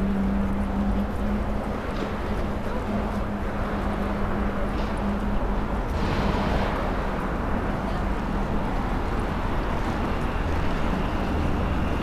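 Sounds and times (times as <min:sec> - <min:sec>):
city background noise: 0:00.0 - 0:12.0.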